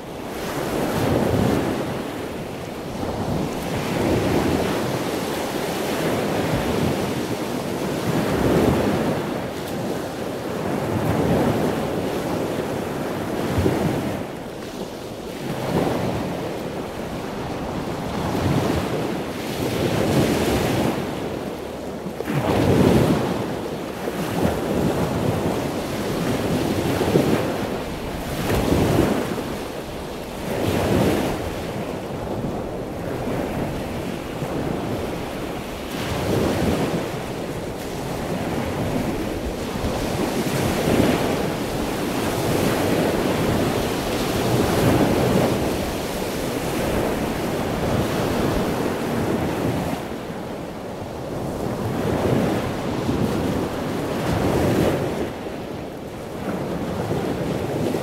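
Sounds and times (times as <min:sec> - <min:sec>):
gusty stormy wind: 0:00.0 - 0:58.0.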